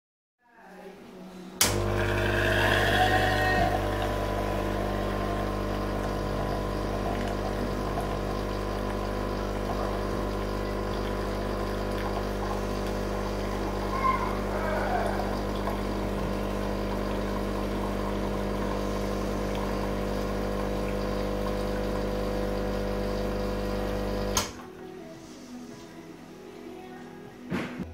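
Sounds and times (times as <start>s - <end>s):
espresso machine pump humming: 1.6s - 24.6s
hot water pouring into cup: 1.8s - 24.5s.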